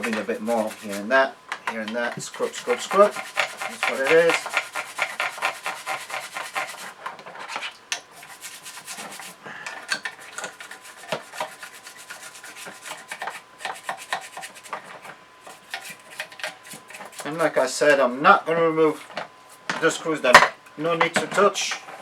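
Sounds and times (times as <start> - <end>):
brush scrubbing strokes rasping: 0.0 - 17.9.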